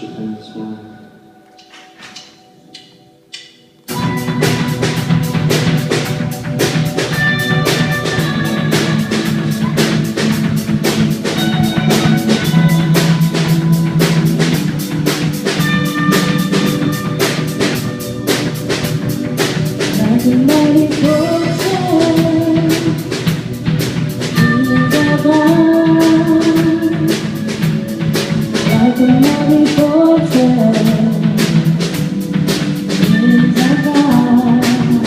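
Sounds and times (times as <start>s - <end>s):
band playing: 0.0s - 35.0s
busy drum beat: 3.9s - 35.0s.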